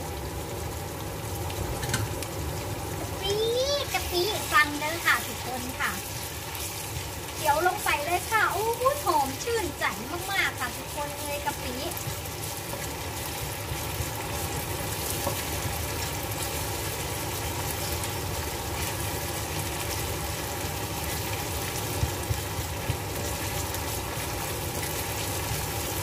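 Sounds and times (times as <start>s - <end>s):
food frying in oil: 0.0s - 26.0s.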